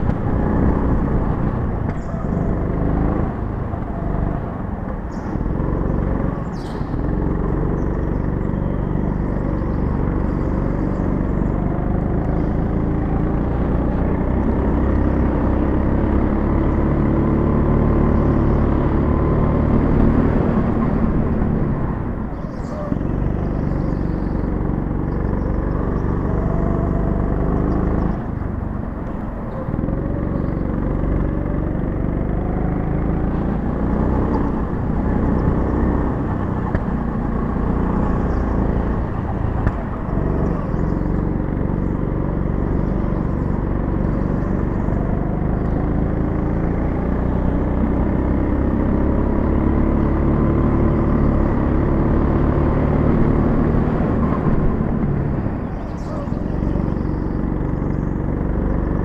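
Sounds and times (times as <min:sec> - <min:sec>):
go-kart engine at speed: 0:00.0 - 0:59.0.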